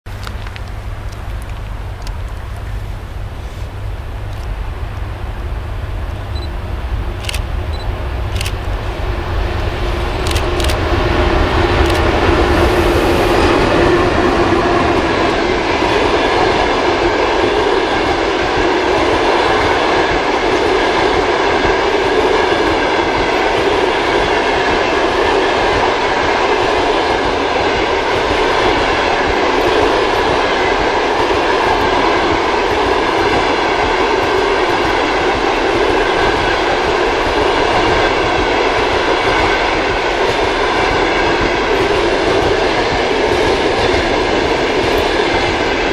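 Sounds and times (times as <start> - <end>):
train wheels rumbling on rails: 0.1 - 45.9
electric locomotive passing: 0.2 - 45.9.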